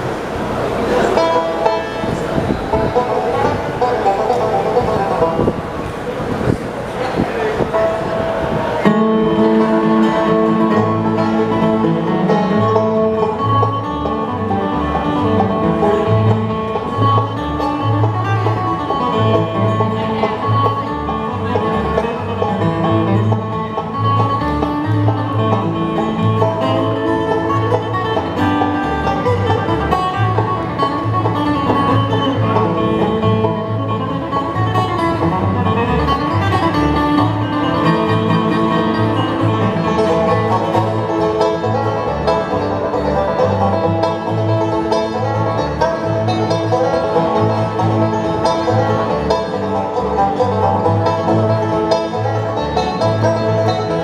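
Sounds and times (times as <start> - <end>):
banjo picking: 0.0 - 54.0
bass line: 0.0 - 54.0
guitar picking: 0.0 - 54.0.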